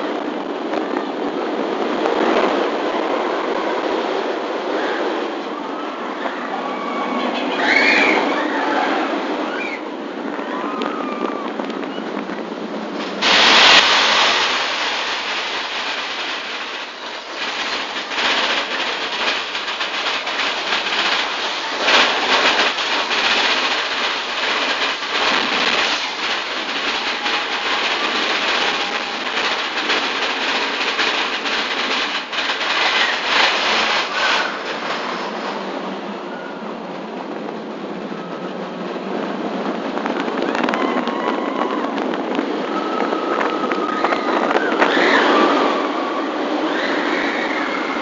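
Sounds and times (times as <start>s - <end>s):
roller coaster wheels rattling: 0.0s - 48.0s.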